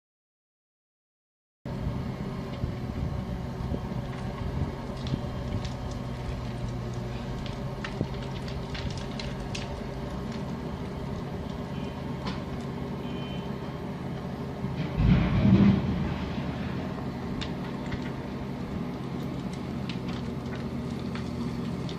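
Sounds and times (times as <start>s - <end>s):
heavy vehicle engine running: 1.7s - 21.9s.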